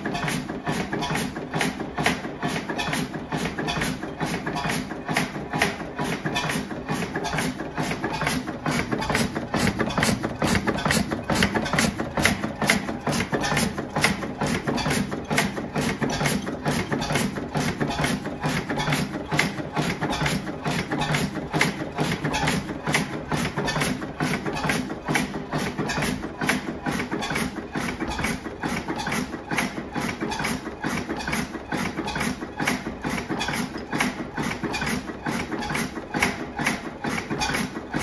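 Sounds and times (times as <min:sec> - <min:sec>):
oil engine knocking: 0:00.0 - 0:38.0.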